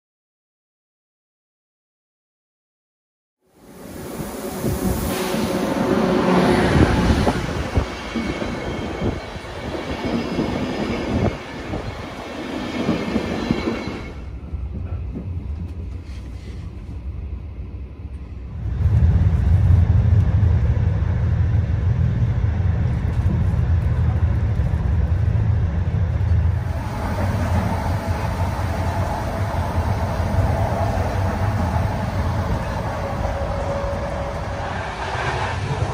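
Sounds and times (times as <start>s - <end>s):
train low rumble and hum: 3.5s - 35.9s
train wheel and traction noise: 3.5s - 35.9s.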